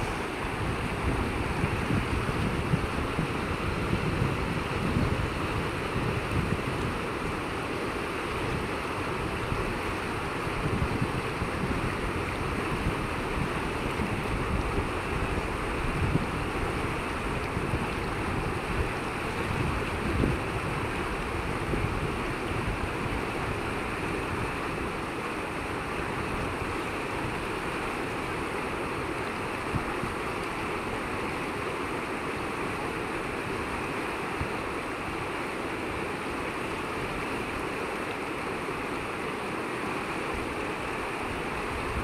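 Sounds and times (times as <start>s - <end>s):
river rapids rushing over rocks: 0.0s - 42.0s.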